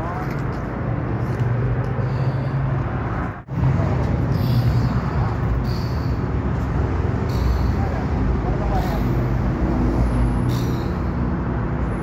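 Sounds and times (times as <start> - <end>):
city street traffic: 0.0 - 12.0
low engine hum: 0.0 - 12.0.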